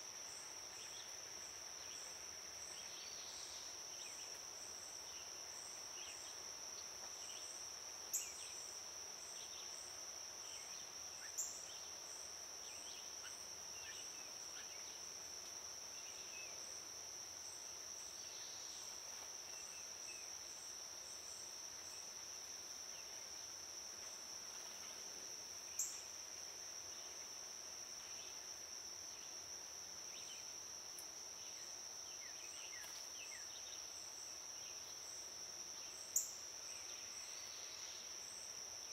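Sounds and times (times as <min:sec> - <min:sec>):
insect high-pitched trill: 0:00.0 - 0:38.9.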